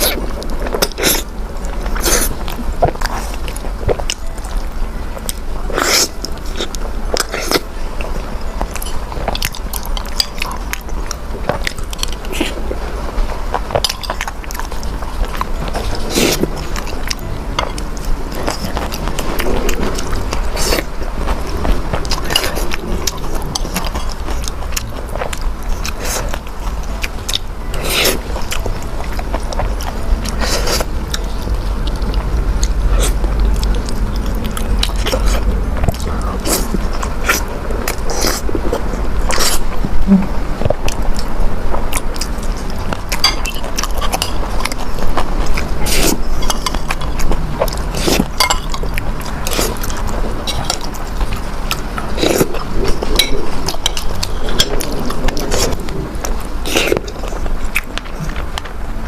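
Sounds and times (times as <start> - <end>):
chewing: 0.0 - 59.0
steady low hum: 0.0 - 59.0.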